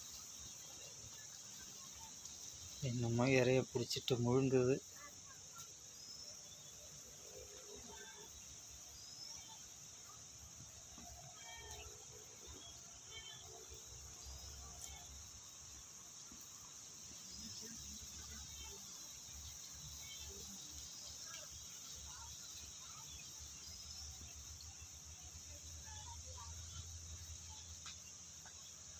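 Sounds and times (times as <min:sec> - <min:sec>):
high-pitched insect trill: 0:00.0 - 0:28.9.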